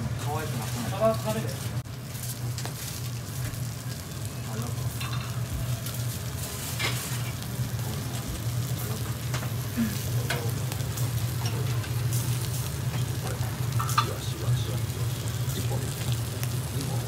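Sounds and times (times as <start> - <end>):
fish sizzling on a grill: 0.0 - 17.0
steady low hum: 0.0 - 17.0
crackles and pops: 1.8 - 17.0.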